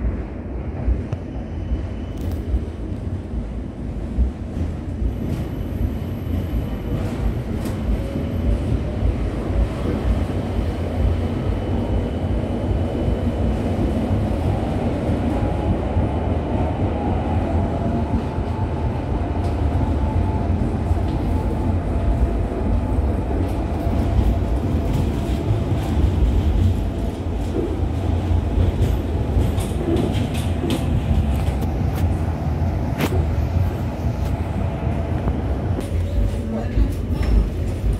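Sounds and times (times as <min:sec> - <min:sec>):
tram wheels rumbling on rails: 0:00.0 - 0:37.9.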